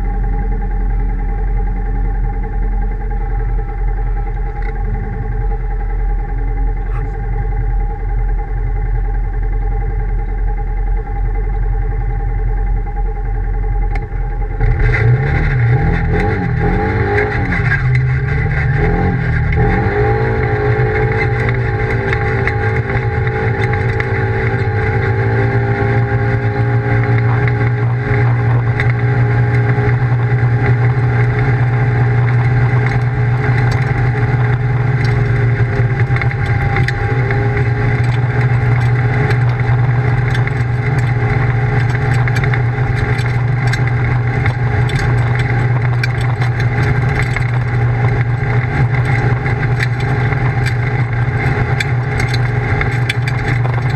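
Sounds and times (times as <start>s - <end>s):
off-road vehicle engine accelerating: 0.0s - 53.9s.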